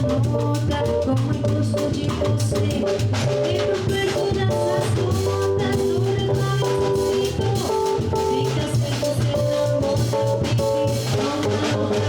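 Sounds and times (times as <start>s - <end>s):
bass: 0.0s - 12.0s
drum kit beat: 0.0s - 12.0s
jazz guitar: 0.0s - 12.0s.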